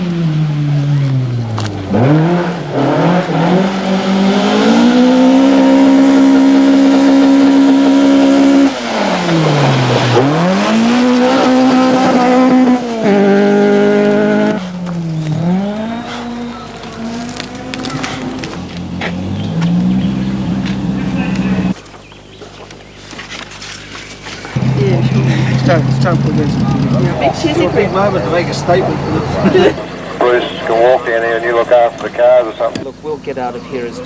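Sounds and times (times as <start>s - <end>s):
rally car engine revving: 0.0s - 21.8s, 24.5s - 34.0s.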